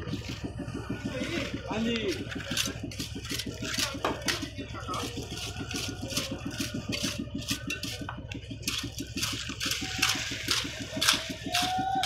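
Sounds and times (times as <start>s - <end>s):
engine chugging steadily: 0.0s - 12.0s.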